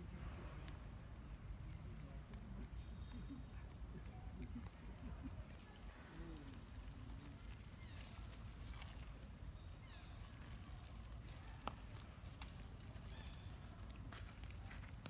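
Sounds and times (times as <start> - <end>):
faint chirping calls: 0.0 - 14.0.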